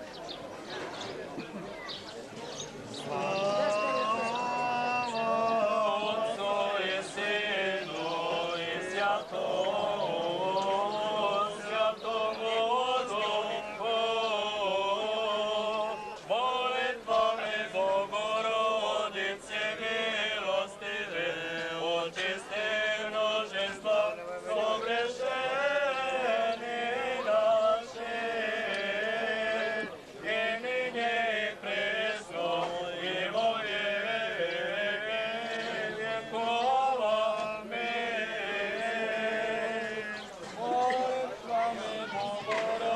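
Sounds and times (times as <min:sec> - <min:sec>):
priest chanting prayer: 0:02.9 - 0:42.9.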